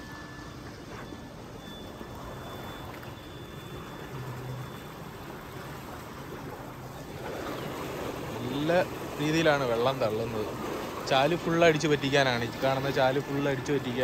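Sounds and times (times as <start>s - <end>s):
water gushing and splashing: 2.1s - 14.0s.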